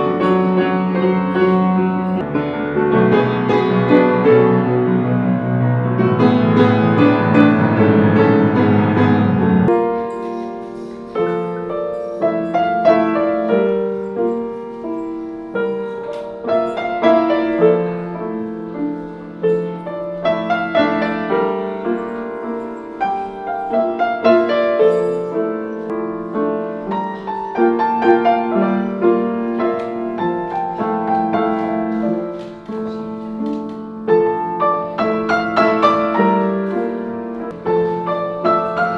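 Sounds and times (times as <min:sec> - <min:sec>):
piano melody over chords: 0:00.0 - 0:38.9.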